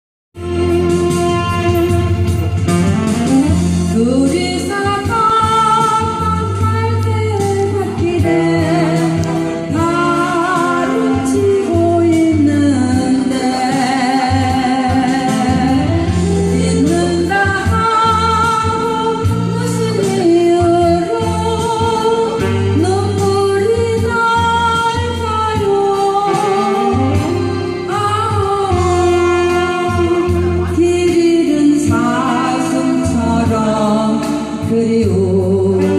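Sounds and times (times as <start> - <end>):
instrumental backing track: 0.4 - 35.9
person singing: 3.9 - 35.9.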